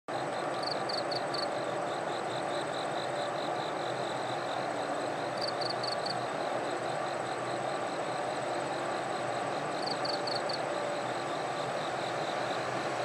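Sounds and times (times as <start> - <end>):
insects chirping: 0.1 - 13.0.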